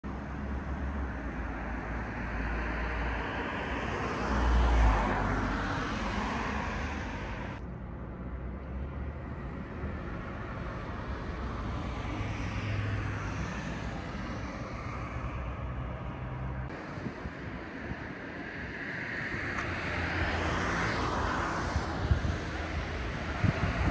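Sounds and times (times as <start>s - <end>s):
traffic rumble: 0.0s - 23.9s
car passing: 0.1s - 7.6s, 8.8s - 23.9s.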